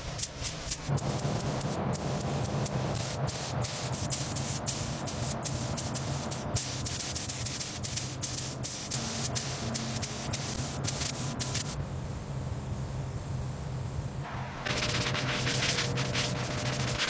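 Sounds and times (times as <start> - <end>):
steady low hum: 0.0 - 17.0
spray nozzle hissing: 0.3 - 12.7, 14.0 - 17.0.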